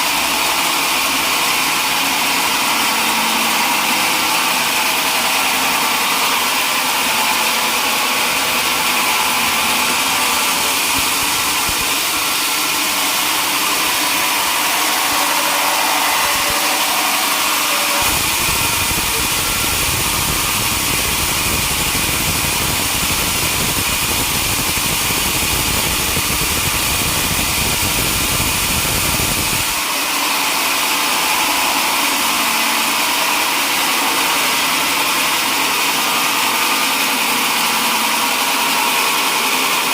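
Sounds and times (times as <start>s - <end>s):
sawmill engine drone: 0.0s - 39.9s.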